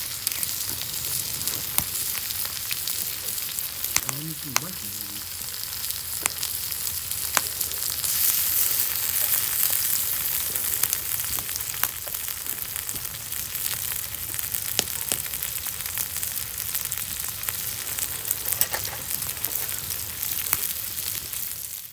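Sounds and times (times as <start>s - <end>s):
food sizzling in oil: 0.0s - 21.9s
oil popping and crackling: 0.0s - 21.9s.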